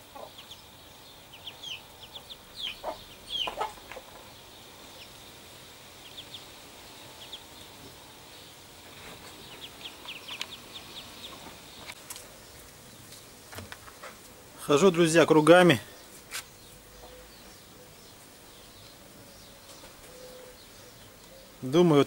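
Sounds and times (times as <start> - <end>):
ducklings peeping: 0.0 - 13.4, 16.0 - 21.6.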